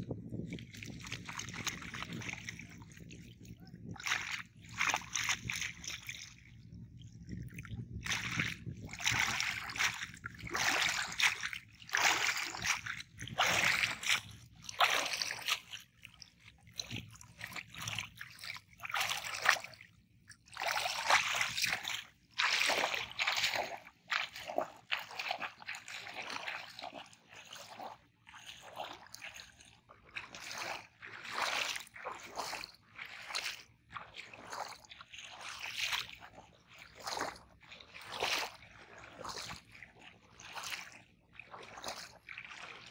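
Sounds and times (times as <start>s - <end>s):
water sloshing and splashing: 0.0s - 42.9s.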